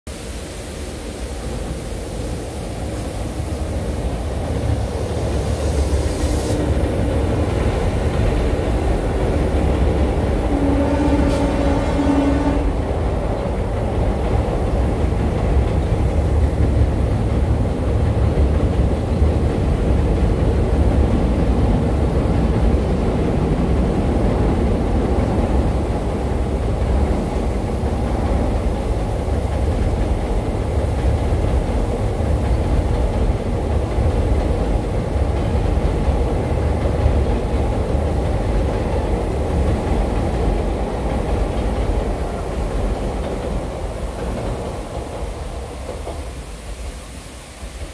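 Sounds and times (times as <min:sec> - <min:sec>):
train coaches rumbling: 0:00.1 - 0:47.9.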